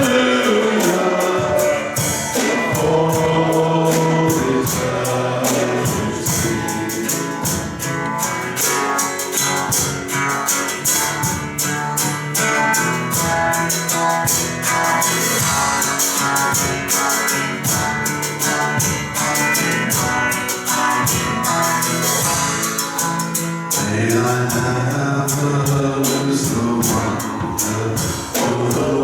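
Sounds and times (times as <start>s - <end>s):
drums: 0.0s - 29.0s
guitar: 0.0s - 29.0s
shaker ticking: 0.0s - 29.0s.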